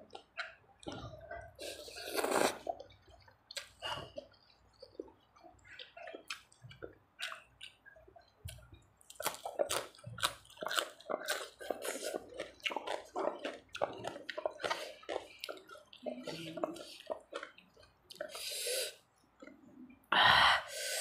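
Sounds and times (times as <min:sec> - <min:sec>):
wet chewing and lip-smacking: 0:00.0 - 0:18.5.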